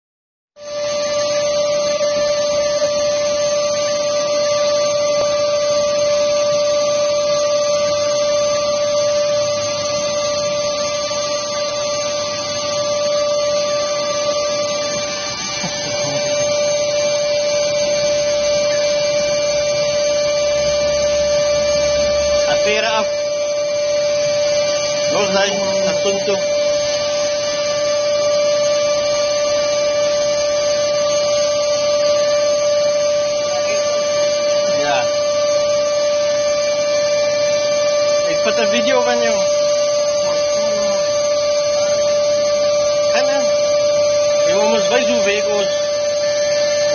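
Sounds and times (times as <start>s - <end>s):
vacuum cleaner running: 0.6s - 46.9s.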